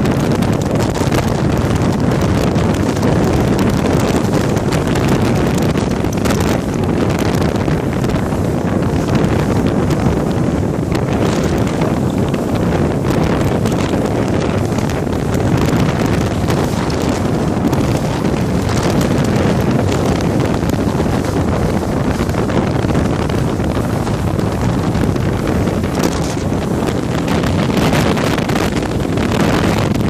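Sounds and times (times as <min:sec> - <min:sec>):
rush of boat spray and wake: 0:00.0 - 0:30.0
wind buffeting microphone: 0:00.0 - 0:30.0.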